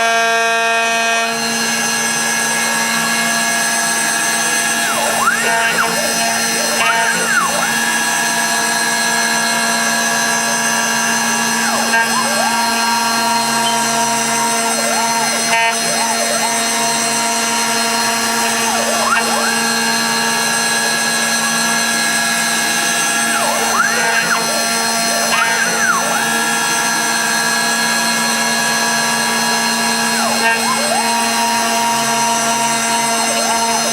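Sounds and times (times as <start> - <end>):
motor tone: 0.0 - 33.9
router spindle whine: 0.0 - 33.9.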